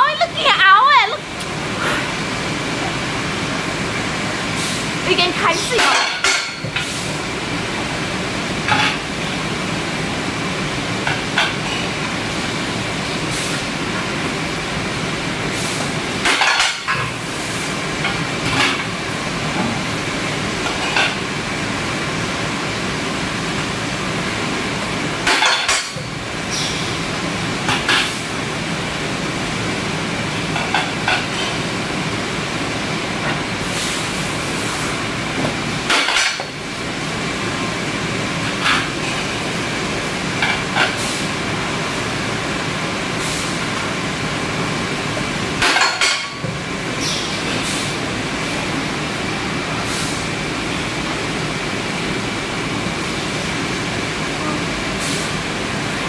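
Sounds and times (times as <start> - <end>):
loud machinery noise: 0.0 - 56.0.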